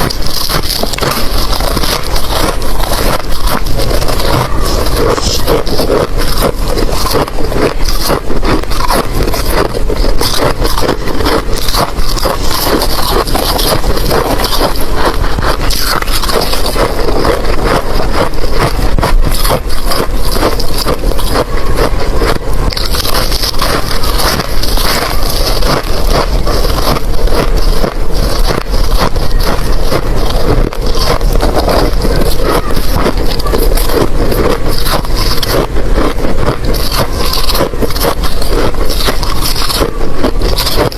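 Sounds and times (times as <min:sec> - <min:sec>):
ice crunching: 0:00.0 - 0:40.9.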